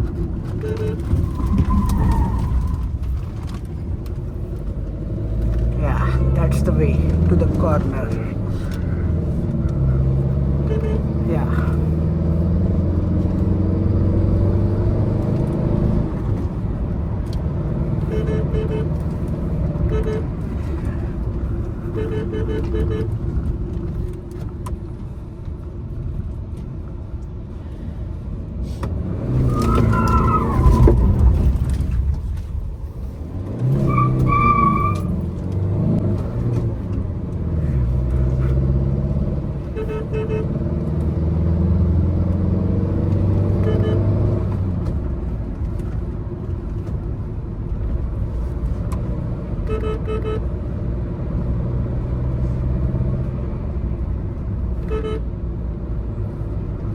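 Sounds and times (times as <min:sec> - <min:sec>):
diesel car engine accelerating: 0:00.0 - 0:56.9.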